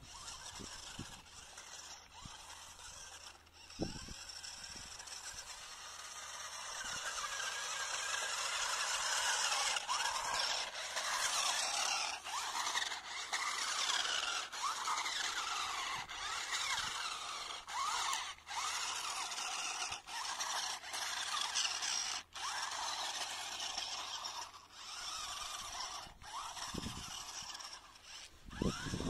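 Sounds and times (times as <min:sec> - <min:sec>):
rc car motor whining: 0:00.0 - 0:29.0.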